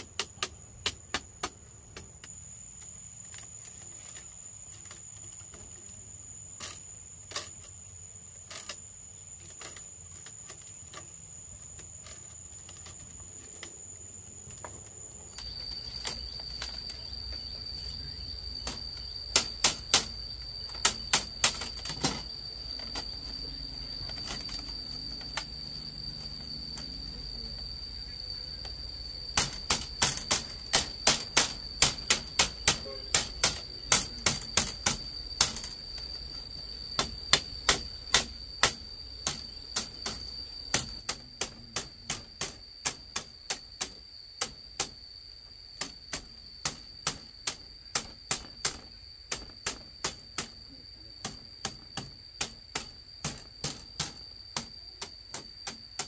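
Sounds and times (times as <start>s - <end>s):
bamboo strips clicking: 0.0s - 7.8s, 8.4s - 13.8s, 14.4s - 17.0s, 18.6s - 23.4s, 24.0s - 27.2s, 28.6s - 45.0s, 45.8s - 50.6s, 51.2s - 56.0s
high insect drone: 0.0s - 56.0s.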